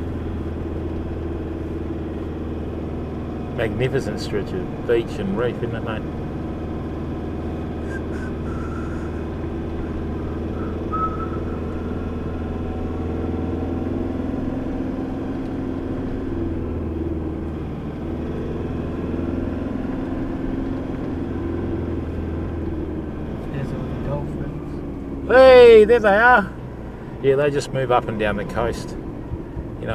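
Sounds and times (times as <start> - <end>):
vehicle engine and tyre drone: 0.0 - 29.9.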